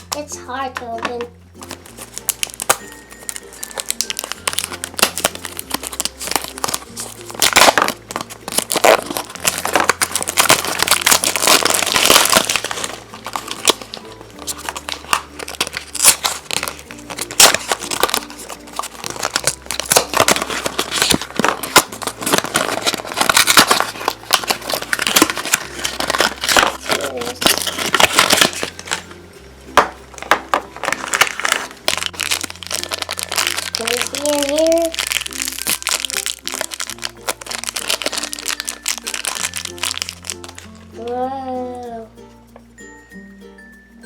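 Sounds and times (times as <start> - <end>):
light background music: 0.0 - 44.0
plastic wrapping crinkling: 0.8 - 40.8.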